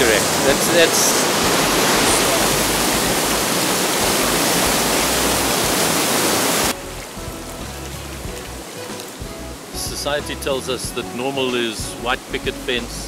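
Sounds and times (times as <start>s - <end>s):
white water rushing: 0.0s - 13.0s.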